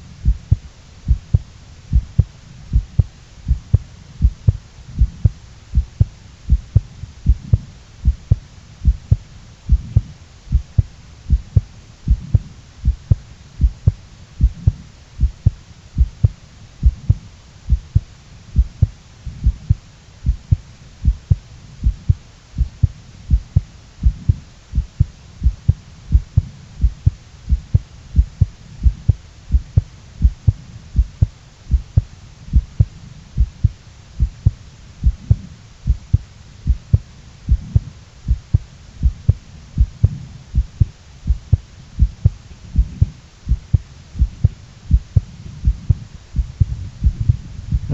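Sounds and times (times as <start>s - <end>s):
human heartbeat: 0.2s - 47.9s.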